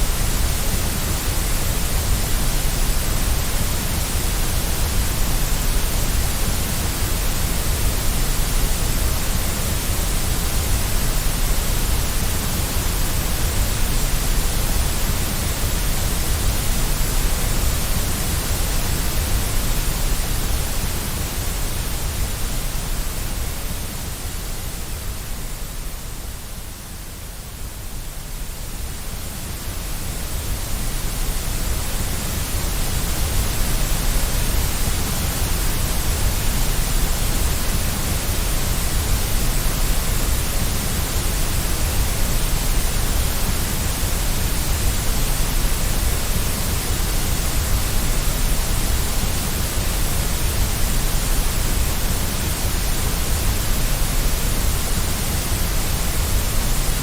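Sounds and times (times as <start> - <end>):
low white noise hiss: 0.0 - 57.0.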